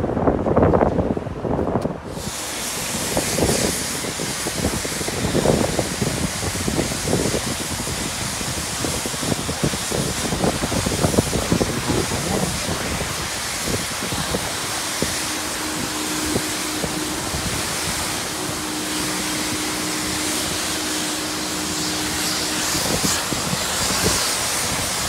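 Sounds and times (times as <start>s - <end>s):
wind buffeting microphone: 0.0s - 25.0s
pressure washer spraying water: 2.0s - 25.0s.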